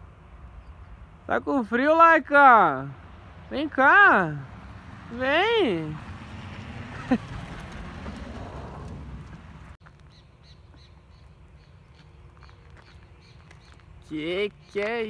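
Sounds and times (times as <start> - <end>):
quiet outdoor ambience: 0.0 - 15.0.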